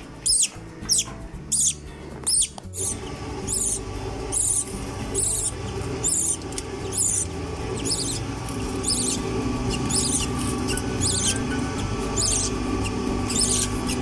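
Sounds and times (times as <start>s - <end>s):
background music: 0.0s - 14.0s
chick peeping: 0.2s - 14.0s.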